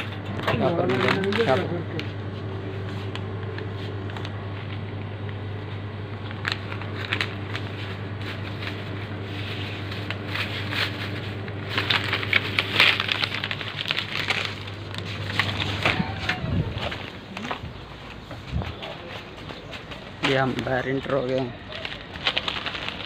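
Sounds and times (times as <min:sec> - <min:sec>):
plastic bags crinkling: 0:00.0 - 0:02.1, 0:06.1 - 0:23.0
steady low hum: 0:00.0 - 0:23.0.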